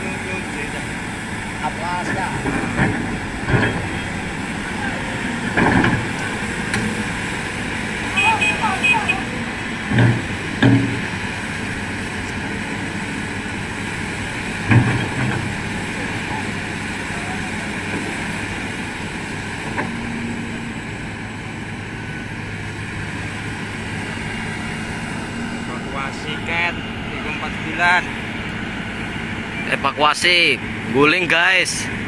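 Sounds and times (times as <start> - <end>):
excavator diesel engines running: 0.0 - 32.0.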